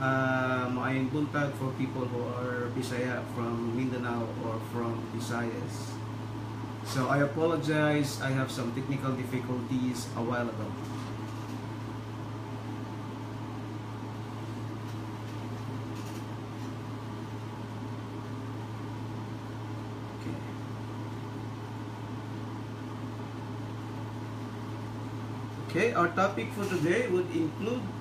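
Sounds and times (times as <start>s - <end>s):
low room hum with hiss: 0.0s - 28.0s.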